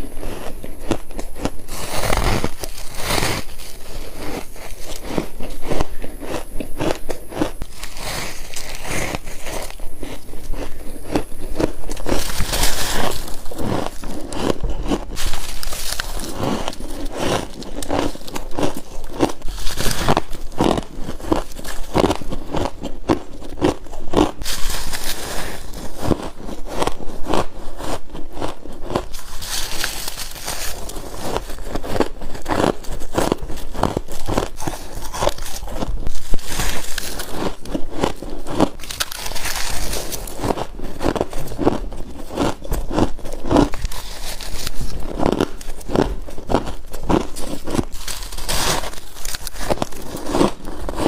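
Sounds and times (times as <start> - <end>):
ice being chewed and crunched: 0.0 - 51.0.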